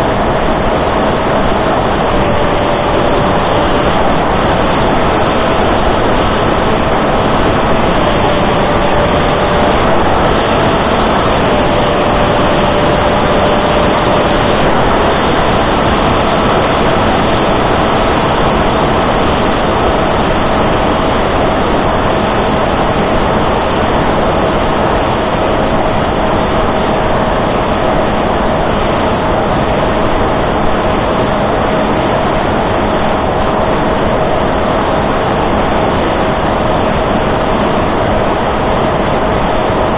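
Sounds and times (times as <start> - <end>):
propeller whine: 0.0 - 39.9
wind rush: 0.0 - 39.9.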